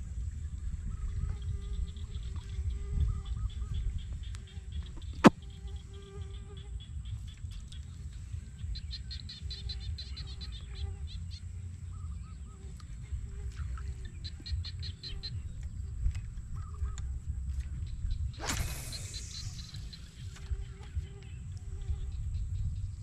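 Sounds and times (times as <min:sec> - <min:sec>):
wind rumble on microphone: 0:00.0 - 0:23.0
birds chirping: 0:00.6 - 0:23.0.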